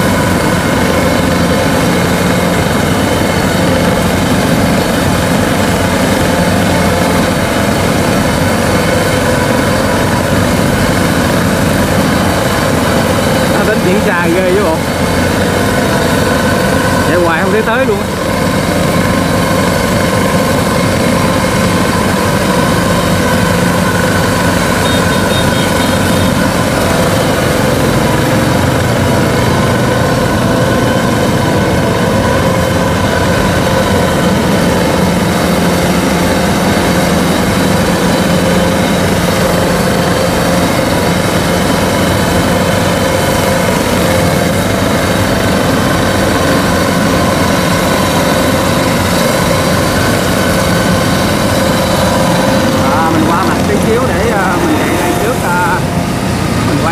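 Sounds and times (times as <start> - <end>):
combine harvester engine running: 0.0 - 56.9.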